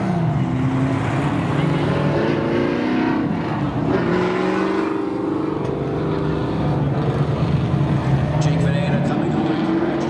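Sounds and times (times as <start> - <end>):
racing truck engines at speed: 0.0 - 10.0.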